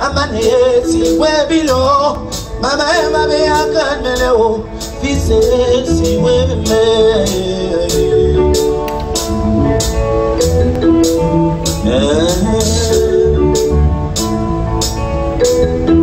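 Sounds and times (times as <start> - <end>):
held melody notes: 0.0 - 16.0
pulsing bass line: 0.0 - 16.0
steady drum beat: 1.0 - 15.6.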